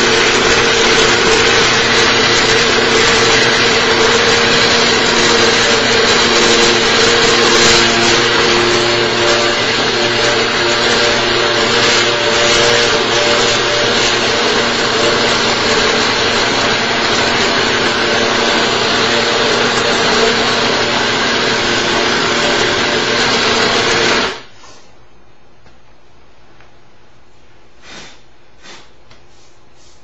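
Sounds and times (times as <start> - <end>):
polisher motor hum: 0.0 - 24.4.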